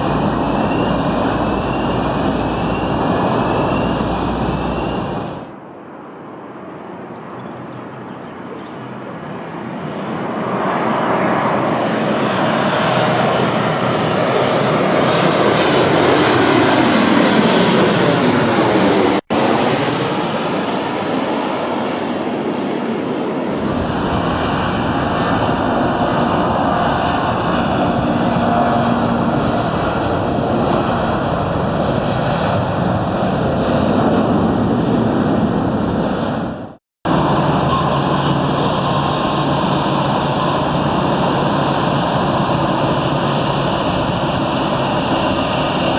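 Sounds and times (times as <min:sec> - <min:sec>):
jet airliner engines: 0:00.0 - 0:45.9.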